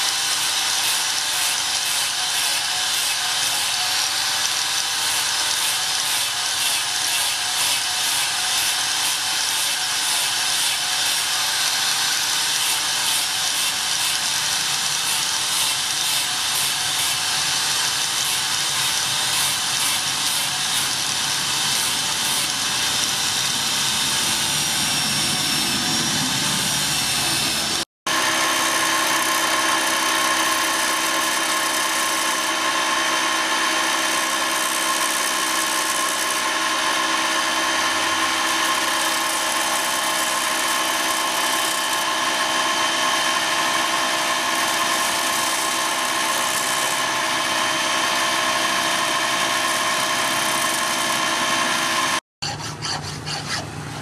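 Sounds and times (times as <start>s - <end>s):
grinding wheel whine: 0.0s - 52.2s
angle grinder sanding steel: 0.0s - 54.0s.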